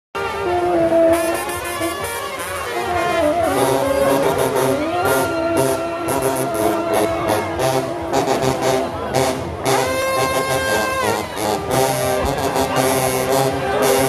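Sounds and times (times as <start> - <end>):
jazz band playing: 0.2 - 14.0.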